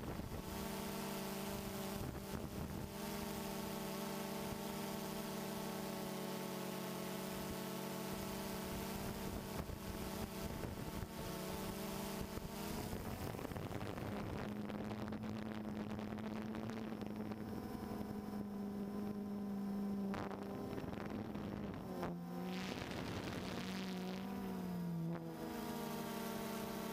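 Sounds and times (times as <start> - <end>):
drone motors whining: 0.4 - 26.9.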